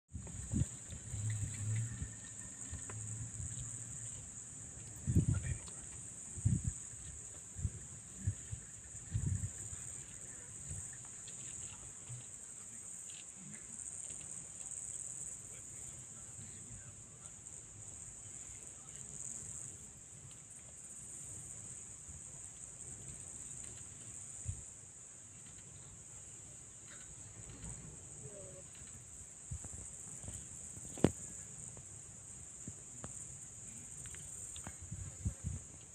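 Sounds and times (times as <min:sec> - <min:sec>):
insects chirring: 0:00.1 - 0:35.9.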